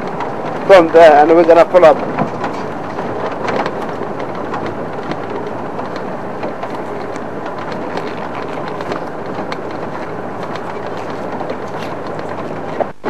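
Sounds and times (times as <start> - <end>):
small rattles and knocks: 0.0 - 13.0
vehicle engine and road noise: 0.0 - 13.0.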